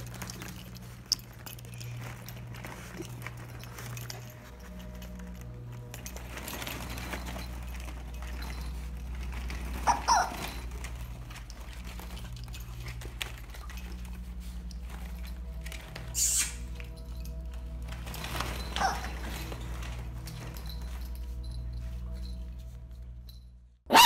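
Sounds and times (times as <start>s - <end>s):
plastic balls rustling and knocking: 0.0s - 23.5s
quiet background music: 0.0s - 24.0s.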